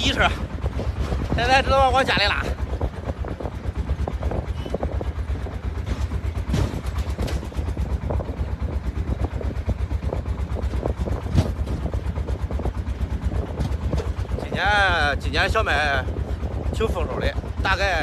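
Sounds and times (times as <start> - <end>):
truck engine chugging: 0.0 - 18.0.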